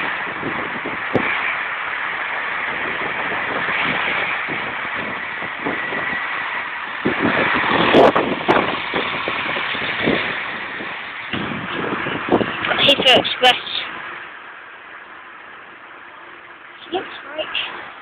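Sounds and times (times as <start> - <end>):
train engines rumbling hiss: 0.0 - 18.0.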